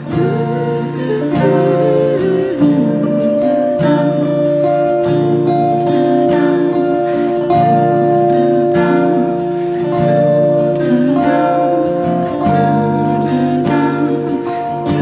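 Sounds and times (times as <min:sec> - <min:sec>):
electric guitar strumming chords: 0:00.0 - 0:15.0
long held tones: 0:00.0 - 0:15.0.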